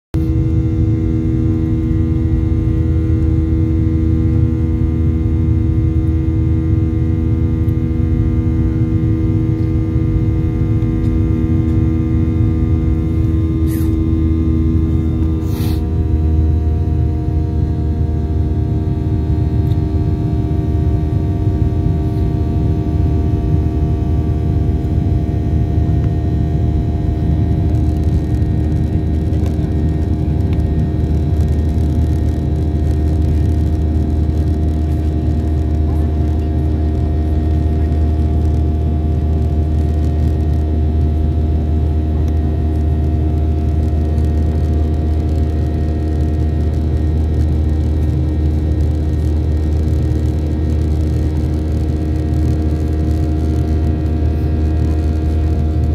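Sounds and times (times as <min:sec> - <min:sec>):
jet engines droning in cabin: 0:00.2 - 0:55.9.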